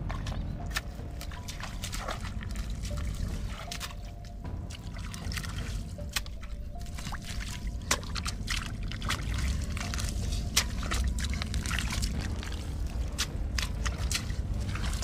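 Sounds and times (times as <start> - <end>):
hands splashing in muddy puddle: 0.0 - 15.0
low rumble: 0.0 - 15.0.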